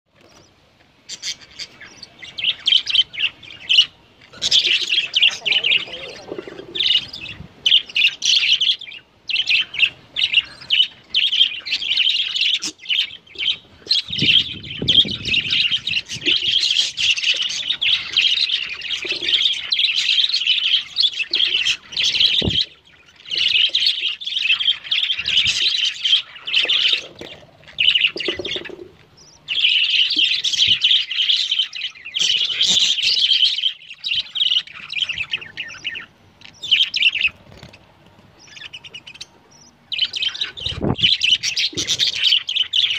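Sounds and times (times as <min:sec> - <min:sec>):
budgie chicks cheeping: 0:00.1 - 0:42.9.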